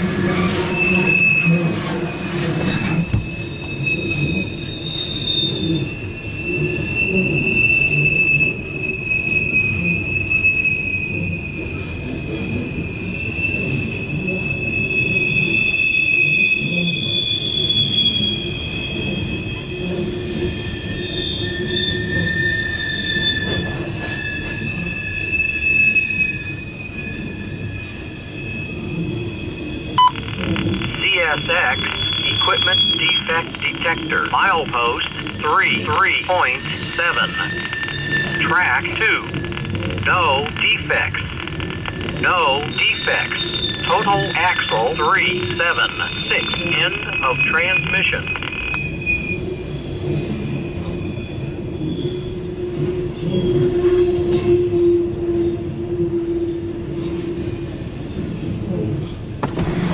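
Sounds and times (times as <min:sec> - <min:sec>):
train wheels squealing on rails: 0:00.0 - 0:59.4
rumble of train cars: 0:00.0 - 0:59.9.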